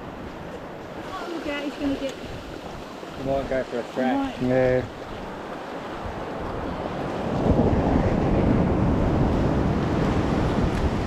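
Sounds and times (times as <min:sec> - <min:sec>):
surf washing up beach: 0:00.0 - 0:11.0
wind buffeting microphone: 0:00.0 - 0:11.0.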